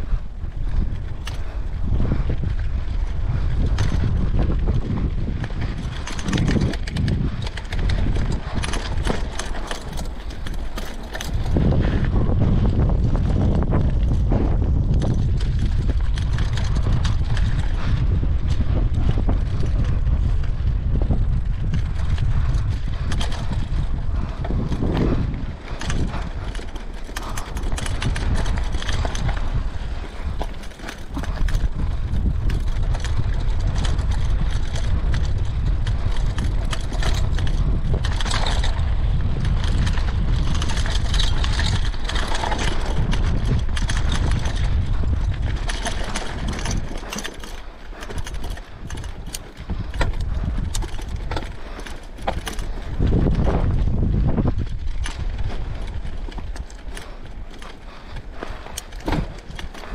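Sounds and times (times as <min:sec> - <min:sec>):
bike rattling: 0:00.0 - 0:59.9
tyres on dirt and rocks: 0:00.0 - 0:59.9
wind rumbling on microphone: 0:00.0 - 0:59.9.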